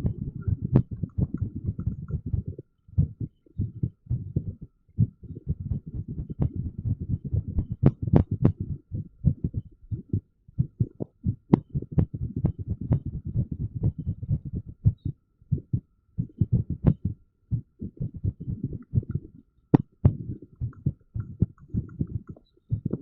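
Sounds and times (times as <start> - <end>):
irregular heartbeat thumps: 0.0 - 23.0.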